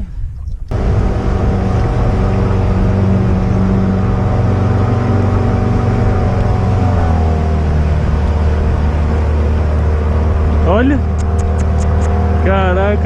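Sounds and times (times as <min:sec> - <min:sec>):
motorboat engine running: 0:00.7 - 0:13.0.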